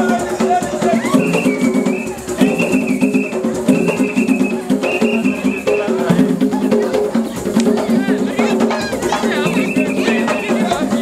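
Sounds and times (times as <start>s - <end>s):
lively dance music: 0.0s - 11.0s.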